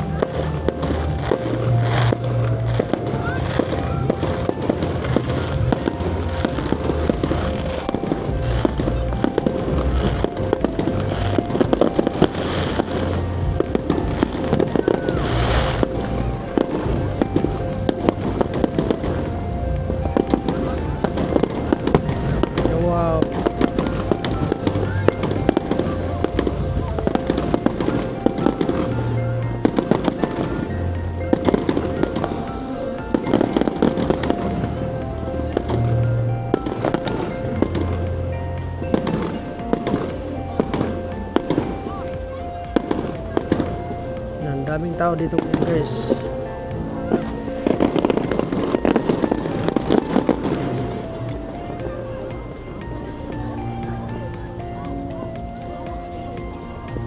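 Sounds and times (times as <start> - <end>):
fireworks bangs and crackles: 0.0 - 57.0
fireworks hissing bursts: 0.0 - 57.0
music playing: 0.0 - 57.0.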